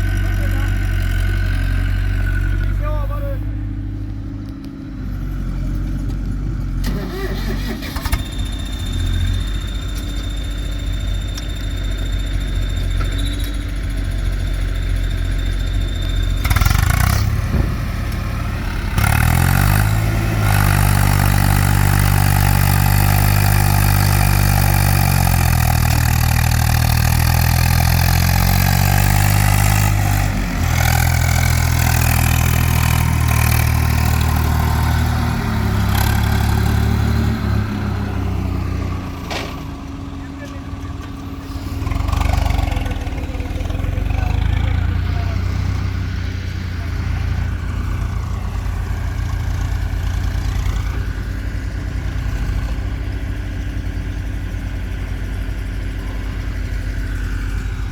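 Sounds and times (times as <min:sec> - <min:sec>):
heavy diesel machinery engine: 0:00.0 - 0:57.9.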